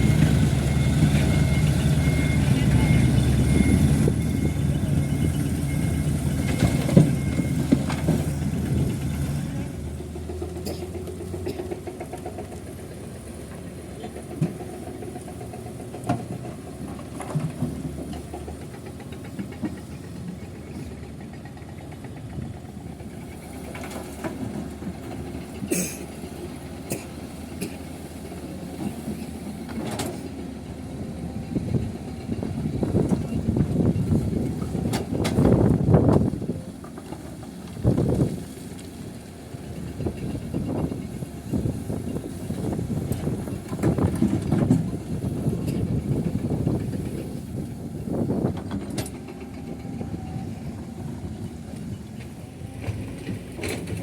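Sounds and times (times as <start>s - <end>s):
diesel engine rumble: 0.0s - 54.0s.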